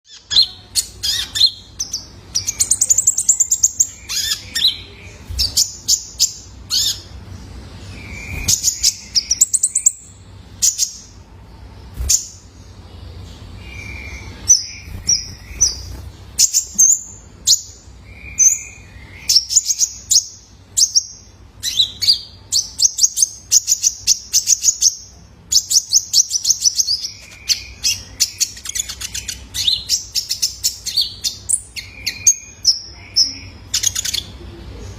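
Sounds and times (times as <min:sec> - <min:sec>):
bird singing high chirps and trills: 0:00.0 - 0:34.9.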